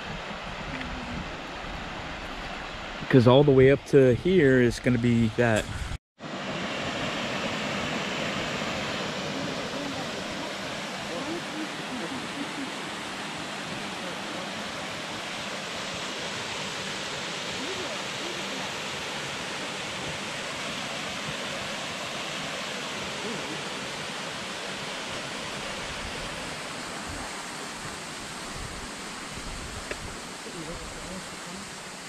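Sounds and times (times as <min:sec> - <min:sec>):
mountain stream rushing: 0:06.2 - 0:32.0
small waterfall: 0:06.2 - 0:32.0.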